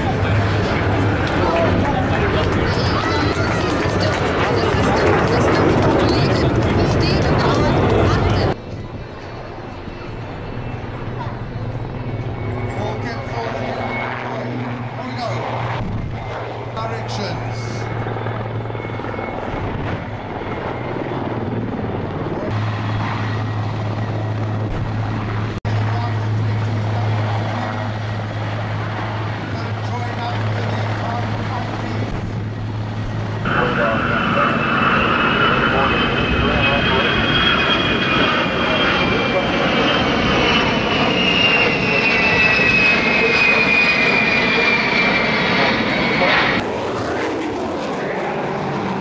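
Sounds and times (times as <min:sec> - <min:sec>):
helicopter rotor beating: 0:00.0 - 0:49.0
jet aircraft flying overhead: 0:00.0 - 0:49.0
low drone: 0:00.0 - 0:49.0.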